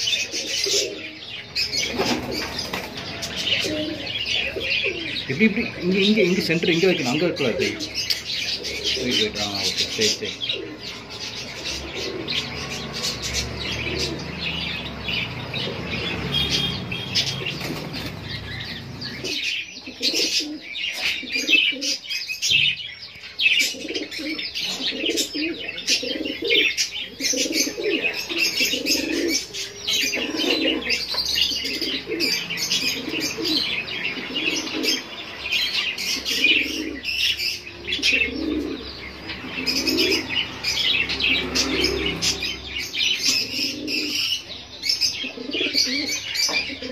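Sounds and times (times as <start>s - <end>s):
pigeons cooing: 0.0s - 46.9s
small birds chirping: 0.0s - 46.9s.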